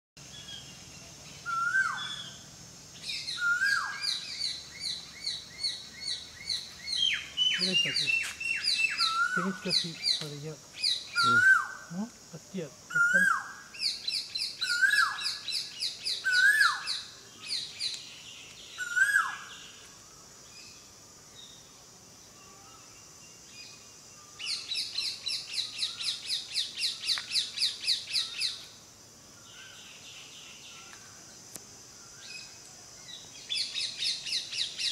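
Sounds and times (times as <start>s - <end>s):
birds singing: 0.2s - 28.7s, 29.3s - 34.9s.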